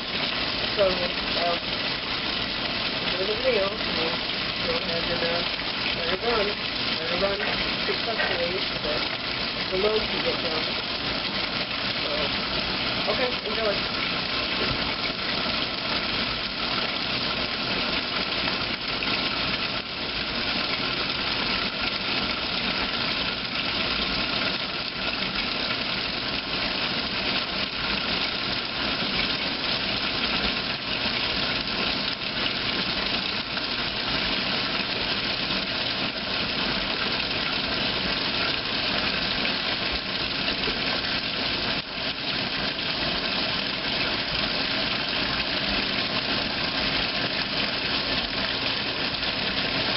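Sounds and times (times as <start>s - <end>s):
washing machine running: 0.0s - 49.9s.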